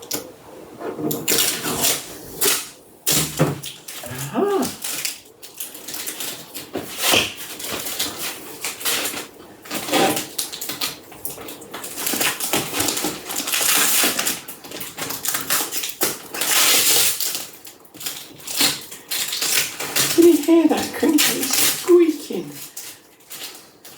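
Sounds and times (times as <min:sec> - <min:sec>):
plastic packaging crinkling: 0:03.1 - 0:23.9.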